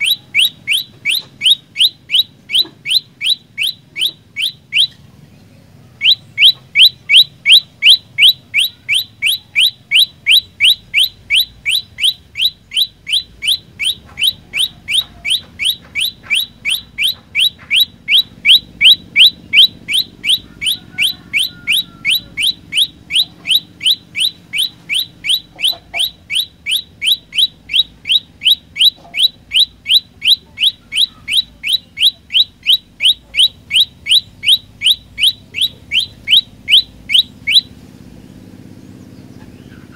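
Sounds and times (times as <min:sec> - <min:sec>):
bird singing upward-sweeping chirps: 0:00.0 - 0:05.0, 0:06.0 - 0:39.9.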